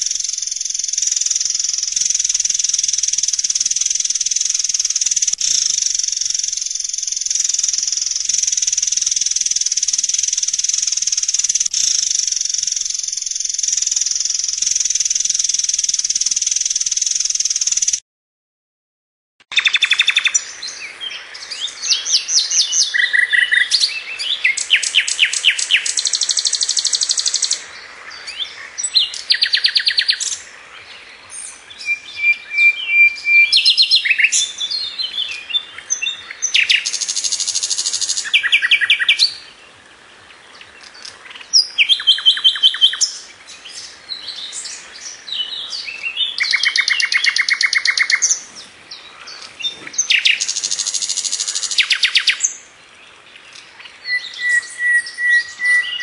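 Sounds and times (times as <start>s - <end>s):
songbird trills: 0.0s - 18.0s, 19.5s - 56.0s.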